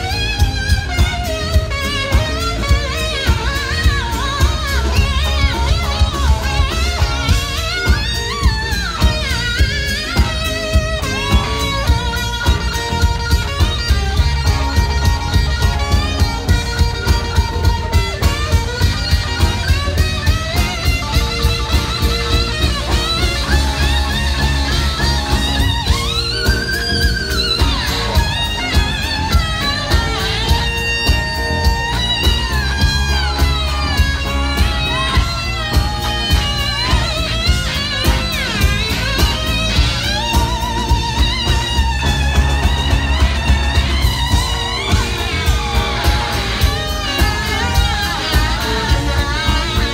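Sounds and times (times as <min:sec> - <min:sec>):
bass: 0:00.0 - 0:49.9
pedal steel guitar sliding notes: 0:00.0 - 0:49.9
steady drum beat: 0:00.0 - 0:49.9.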